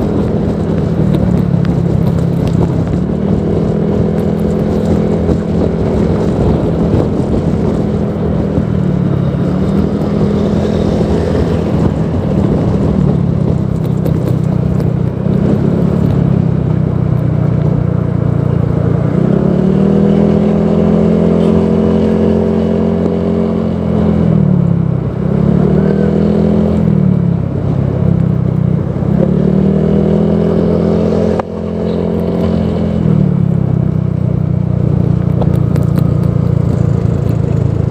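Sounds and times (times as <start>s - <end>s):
scooter engine revving: 0.0s - 37.9s.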